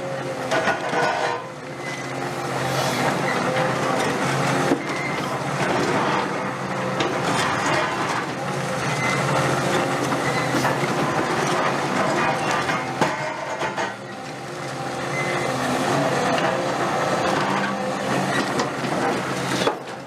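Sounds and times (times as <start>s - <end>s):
concrete grinding and crunching: 0.0s - 20.0s
excavator diesel engine running: 0.0s - 20.0s.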